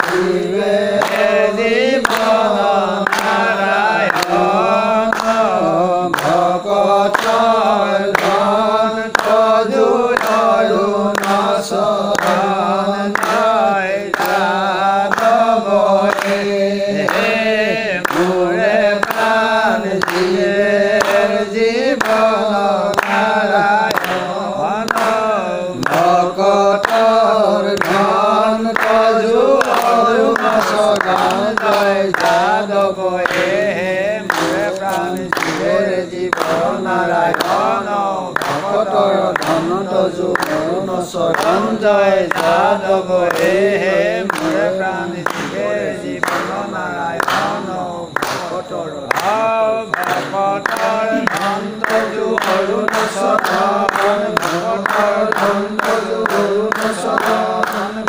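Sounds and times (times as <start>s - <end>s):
group of voices chanting a hymn: 0.0s - 58.0s.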